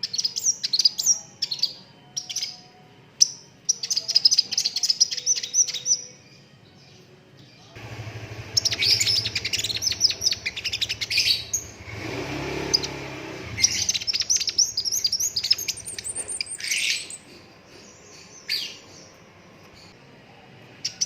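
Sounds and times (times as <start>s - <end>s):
sunbird singing fast chirps: 0.0s - 7.7s, 8.4s - 12.0s, 12.6s - 20.0s.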